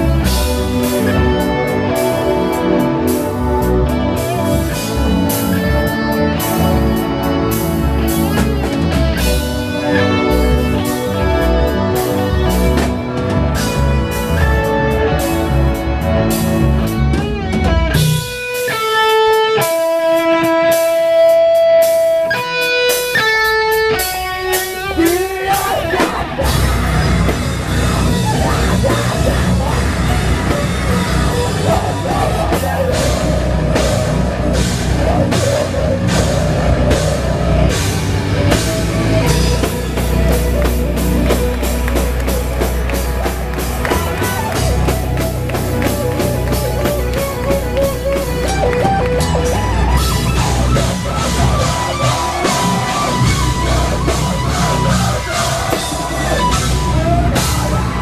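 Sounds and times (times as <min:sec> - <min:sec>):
drums: 0:00.0 - 0:58.0
electric guitar sustained notes: 0:00.0 - 0:58.0
heavy metal band playing: 0:00.0 - 0:58.0.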